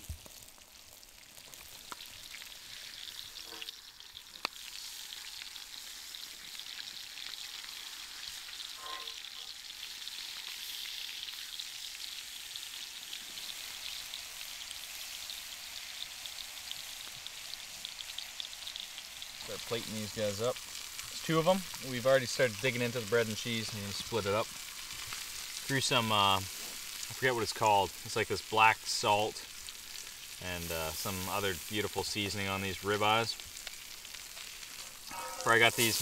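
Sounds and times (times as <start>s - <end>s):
steaks sizzling in a pan: 0.0s - 36.0s.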